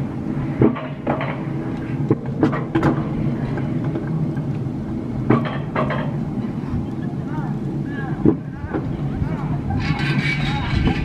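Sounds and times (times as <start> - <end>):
sled rolling on metal rail: 0.0 - 11.0.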